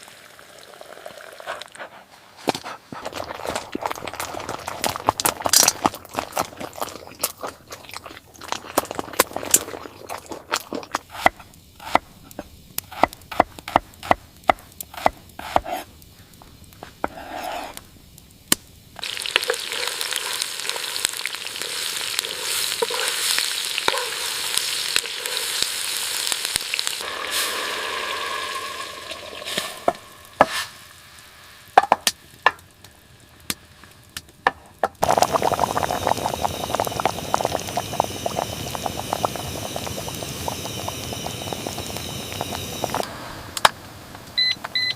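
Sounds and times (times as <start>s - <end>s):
sizzling in a pan: 0.0s - 1.6s, 3.8s - 44.9s.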